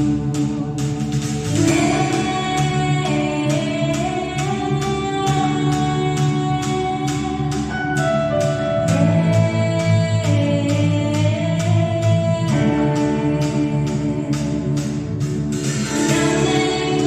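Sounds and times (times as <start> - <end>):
steady drum beat: 0.0 - 17.0
voices singing worship song: 1.0 - 7.7, 9.0 - 17.0.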